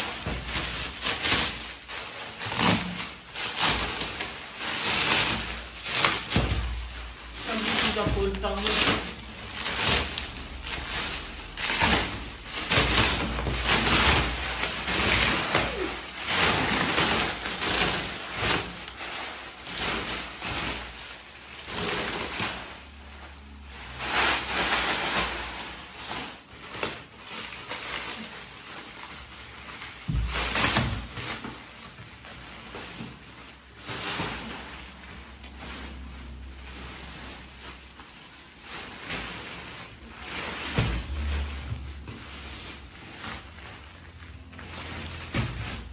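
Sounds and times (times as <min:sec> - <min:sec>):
plastic wrapping crinkling: 0:00.0 - 0:45.9.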